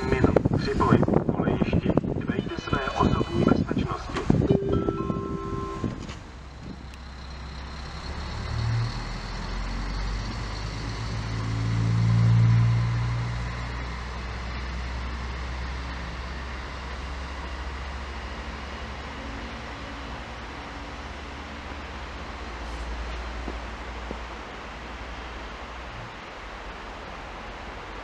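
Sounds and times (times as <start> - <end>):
diesel railcar passing: 0.0 - 28.0.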